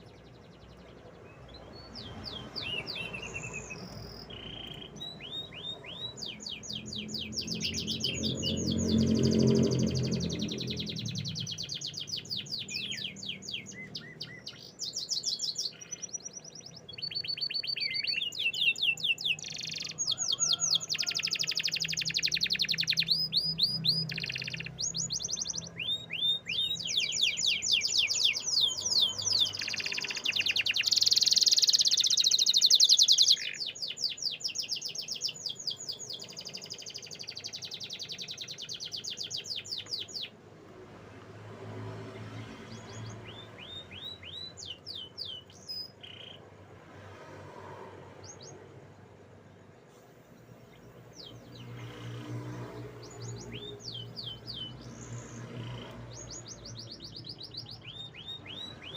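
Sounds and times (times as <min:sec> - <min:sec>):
canary singing: 0:00.0 - 0:40.4, 0:42.2 - 0:46.5, 0:50.3 - 0:58.9.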